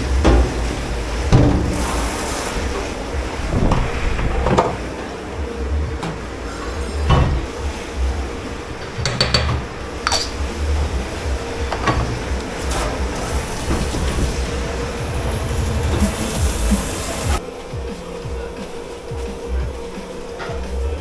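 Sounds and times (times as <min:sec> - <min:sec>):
low machine rumble and hum: 0:00.0 - 0:17.4
crockery and pans clattering: 0:00.0 - 0:20.8
high hissing rush: 0:00.0 - 0:21.0.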